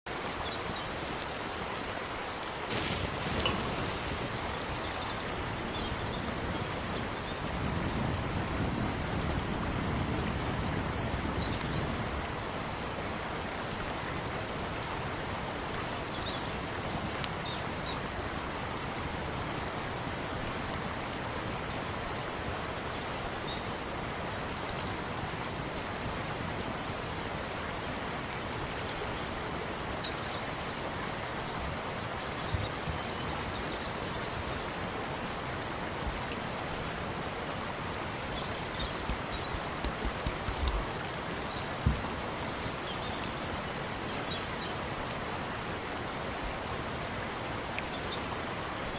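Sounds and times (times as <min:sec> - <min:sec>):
running water rushing: 0:00.0 - 0:48.9.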